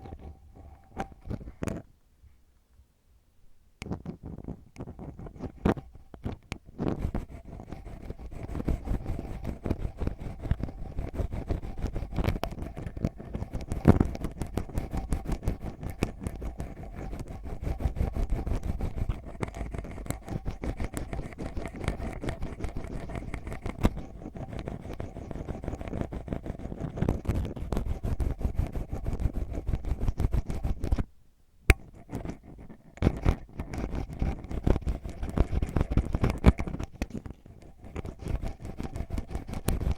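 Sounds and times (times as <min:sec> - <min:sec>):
ear pick scratching in microphone: 0:03.8 - 0:31.1, 0:31.7 - 0:39.9.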